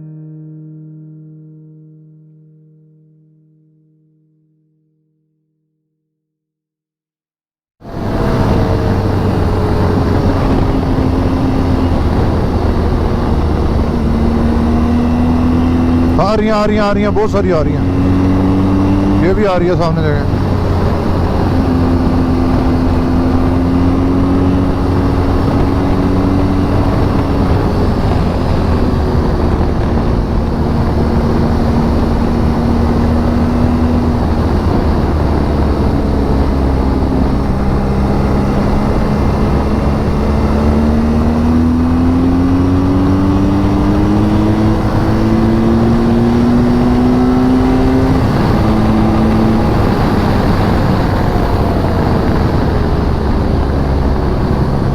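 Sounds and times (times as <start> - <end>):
motorcycle engine cruising: 7.8 - 54.9
wind and road noise: 7.8 - 54.9.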